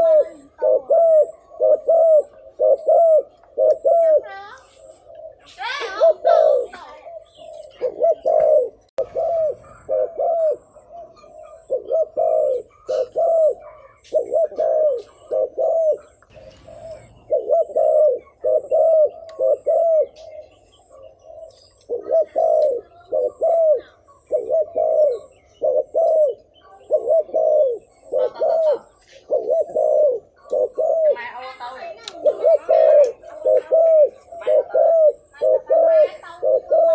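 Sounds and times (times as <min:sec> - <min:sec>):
dove cooing: 0:00.0 - 0:36.9.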